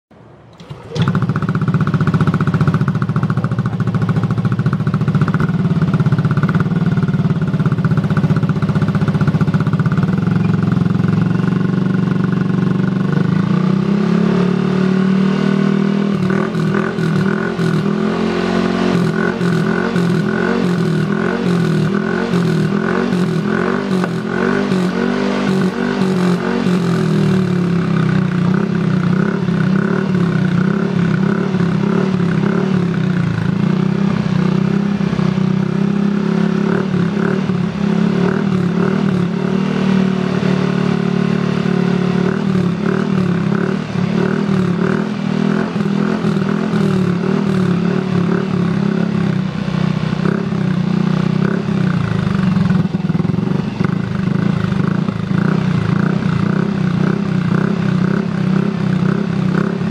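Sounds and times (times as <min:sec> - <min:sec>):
scooter engine revving: 0:00.4 - 0:59.9.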